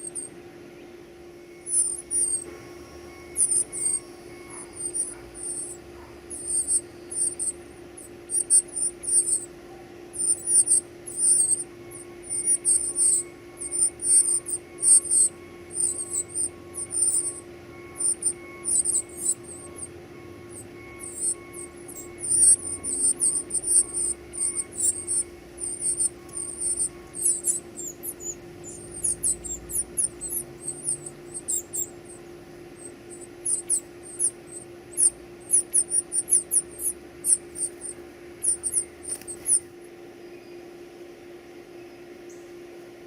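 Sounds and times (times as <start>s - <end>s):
baby birds begging chirps: 0.0s - 40.6s
steady low hum: 0.0s - 43.0s.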